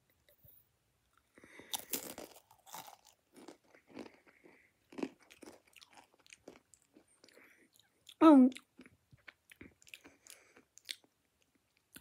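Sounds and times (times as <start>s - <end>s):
chewing crunchy chip: 1.7s - 12.0s.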